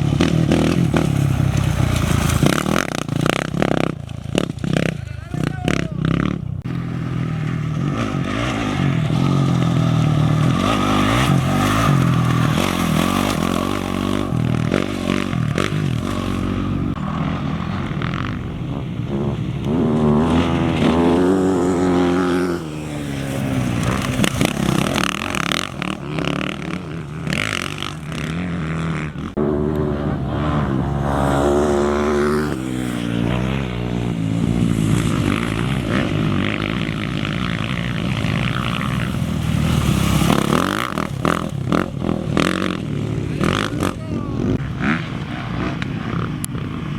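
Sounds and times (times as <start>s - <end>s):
motorcycle and quad engines revving: 0.0s - 46.9s.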